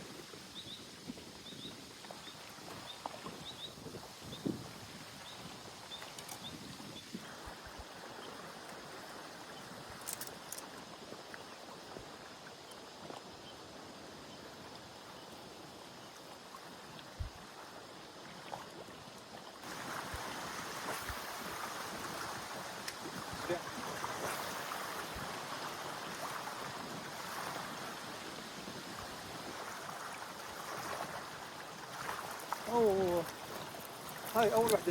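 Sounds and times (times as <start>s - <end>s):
stream running water: 0.0s - 34.9s.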